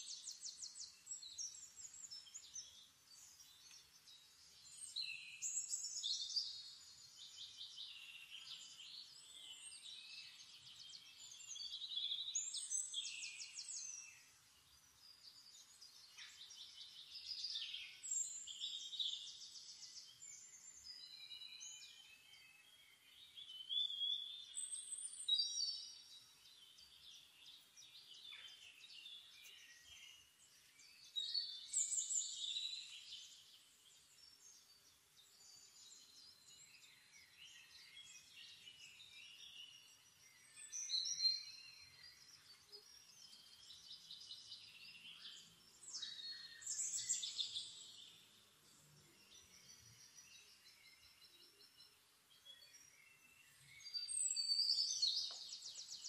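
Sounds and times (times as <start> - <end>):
songbirds trilling and chirping: 0.0 - 56.0.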